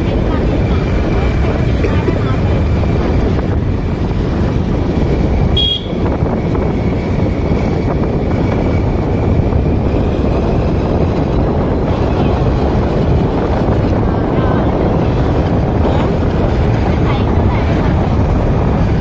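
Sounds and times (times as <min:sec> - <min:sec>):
tyres on road: 0:00.0 - 0:19.0
wind buffeting microphone: 0:00.0 - 0:19.0.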